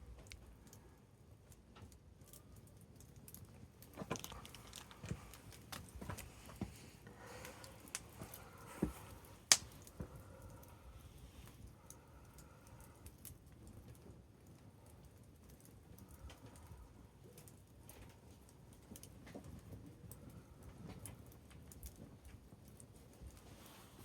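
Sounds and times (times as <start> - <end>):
campfire crackling and popping: 1.4 - 10.7, 11.4 - 23.4.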